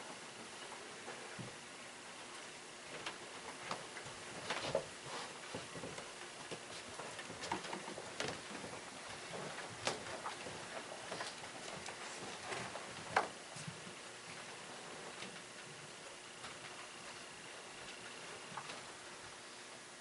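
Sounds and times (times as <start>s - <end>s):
faint rustling: 0.0s - 19.8s.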